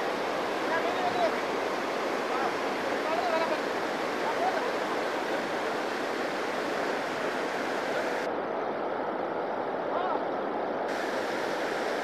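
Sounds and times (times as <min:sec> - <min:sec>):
river water pouring over weir: 0:00.0 - 0:12.0.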